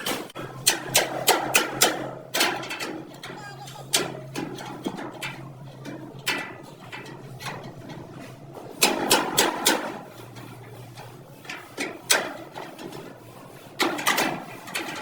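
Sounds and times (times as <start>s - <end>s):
knocks and clatter: 0.0s - 13.2s.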